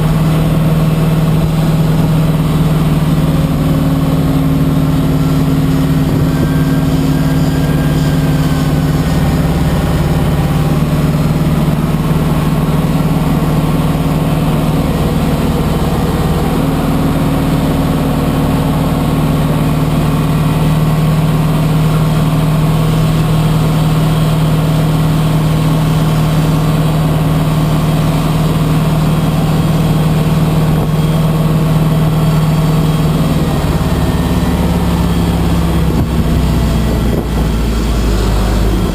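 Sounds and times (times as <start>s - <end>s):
tug engine droning: 0.0s - 38.9s.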